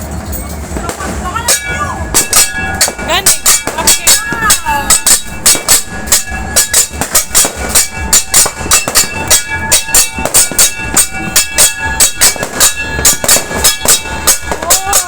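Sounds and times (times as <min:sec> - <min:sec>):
metal banging with ringing: 0:00.0 - 0:15.0.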